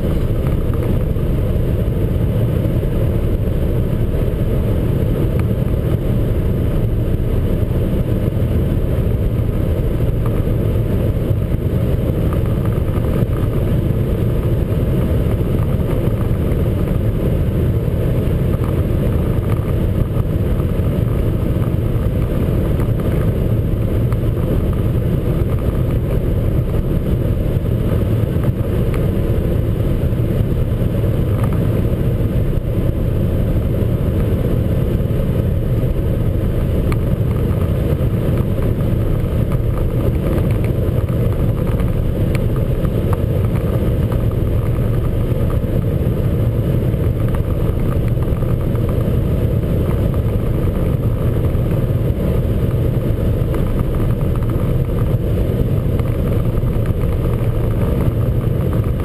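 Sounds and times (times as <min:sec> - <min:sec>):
car engine drone: 0:00.0 - 0:59.0
wind and road noise: 0:00.0 - 0:59.0.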